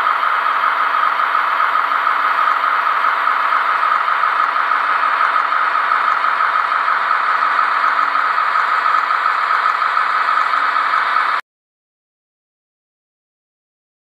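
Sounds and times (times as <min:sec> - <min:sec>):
model train whirring and rattling: 0:00.0 - 0:11.4.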